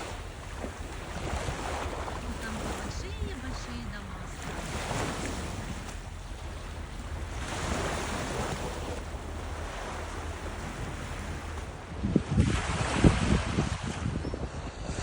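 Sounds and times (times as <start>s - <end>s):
ocean waves washing ashore: 0.0s - 15.0s
wind rumble on microphone: 0.0s - 15.0s.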